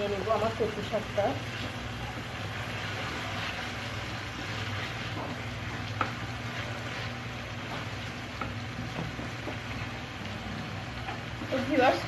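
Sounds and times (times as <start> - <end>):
greens sizzling in a pan: 0.0 - 12.0.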